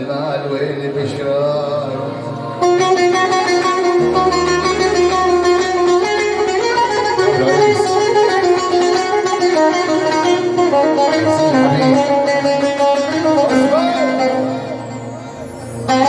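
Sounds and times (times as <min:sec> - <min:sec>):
plucked lute melody: 0:00.7 - 0:16.0.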